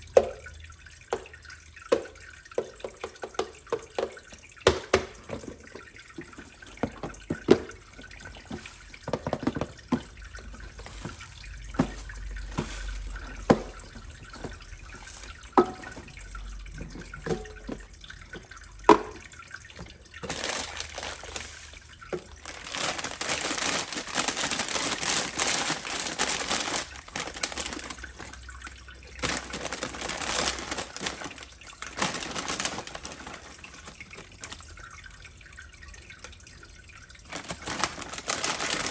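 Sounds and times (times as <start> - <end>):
water dripping: 0.0 - 38.9
water pouring: 0.0 - 38.9.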